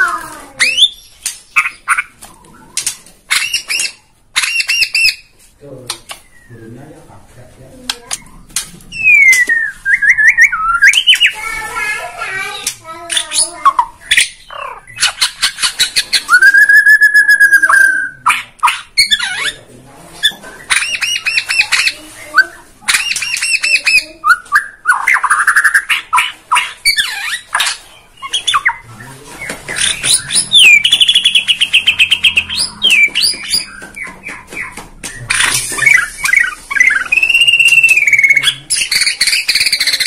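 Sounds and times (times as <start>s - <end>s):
bird singing trills and whistles: 0.0s - 5.3s, 6.1s - 6.8s, 8.1s - 11.5s, 13.1s - 19.6s, 20.2s - 40.0s.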